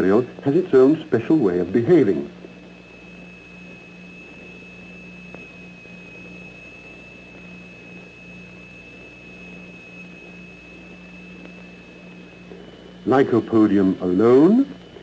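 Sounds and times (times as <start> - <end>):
high pure tone: 0.0 - 15.0
low hum: 0.0 - 15.0.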